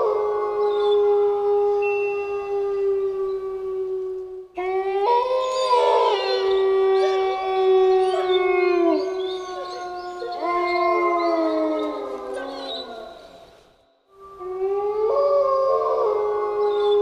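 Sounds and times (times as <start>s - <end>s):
wolves howling: 0.0s - 13.6s, 14.2s - 17.0s.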